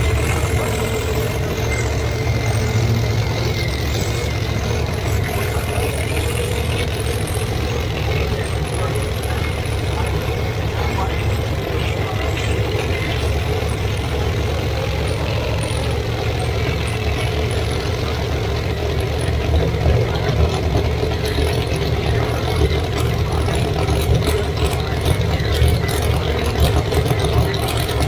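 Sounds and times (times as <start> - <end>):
race car engines idling: 0.0 - 28.0.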